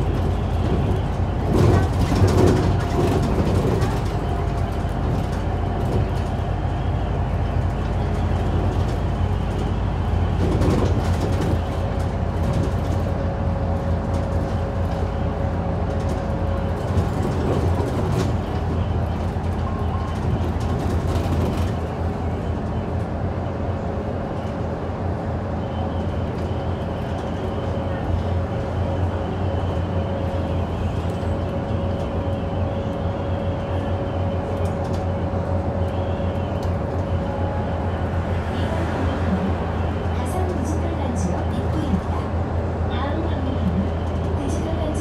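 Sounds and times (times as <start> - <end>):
bus engine drone: 0.0 - 45.0
road noise: 0.0 - 45.0.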